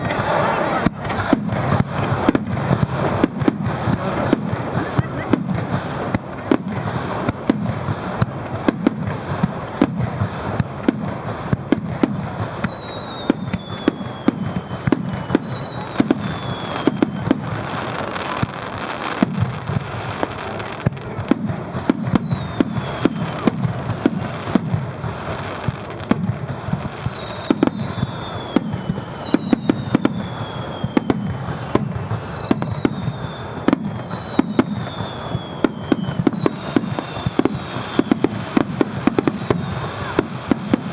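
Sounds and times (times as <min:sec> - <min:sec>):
fireworks bursts and booms: 0:00.0 - 0:40.9
fireworks whistles falling in pitch: 0:00.0 - 0:40.9.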